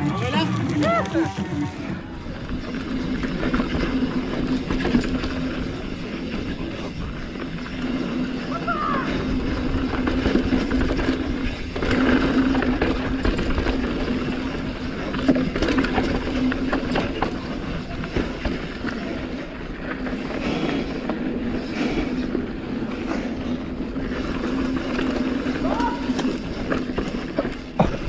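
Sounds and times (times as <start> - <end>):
bike rattling over bumps: 0.0 - 28.0
bike tyre noise: 0.0 - 28.0.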